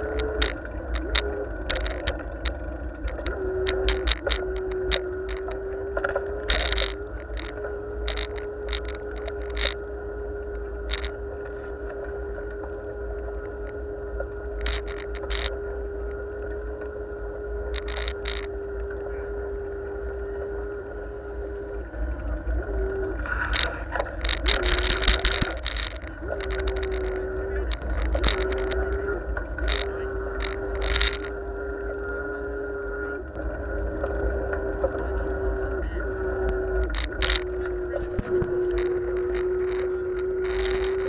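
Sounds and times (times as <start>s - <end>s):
bicycle rattling ticks: 0.0s - 41.0s
steady hum: 0.0s - 41.0s
wind and tyres rumbling: 0.0s - 41.0s.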